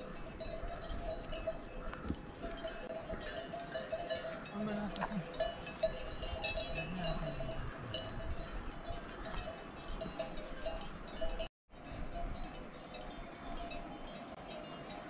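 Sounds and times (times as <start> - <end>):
cattle bells clanking: 0.0 - 15.0.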